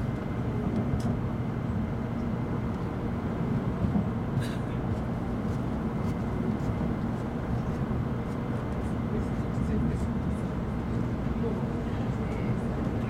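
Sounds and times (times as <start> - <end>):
train rumbling in motion: 0.0 - 13.0.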